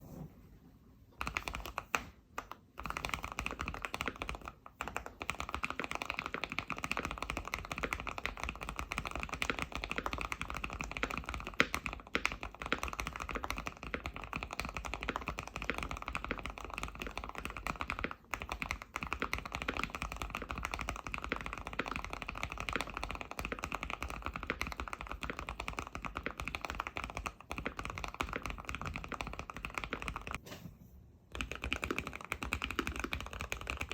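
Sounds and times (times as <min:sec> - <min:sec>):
fast typing on mechanical keyboard: 0:01.2 - 0:30.4, 0:31.3 - 0:33.9.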